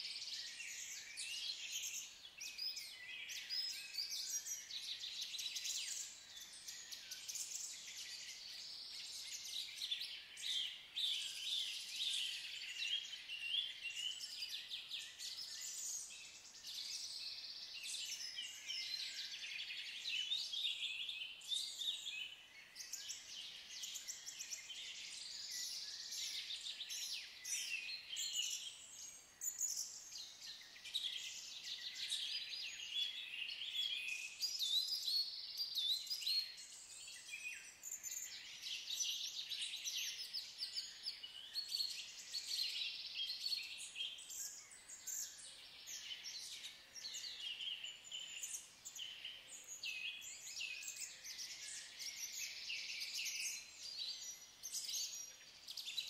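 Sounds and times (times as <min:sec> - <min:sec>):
small birds singing and chirping: 0:00.0 - 0:56.0.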